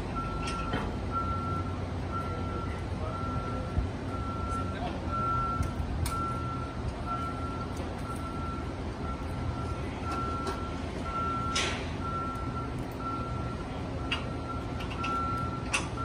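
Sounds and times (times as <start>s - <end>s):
heavy equipment engine rumble: 0.0s - 16.0s
warning alarm beeping: 0.1s - 16.0s.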